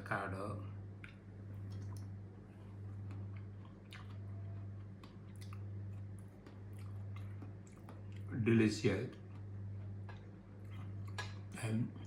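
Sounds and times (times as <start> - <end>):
steady low hum: 0.0 - 12.0
chewing mouth clicks and squelches: 1.0 - 8.3, 9.1 - 11.6.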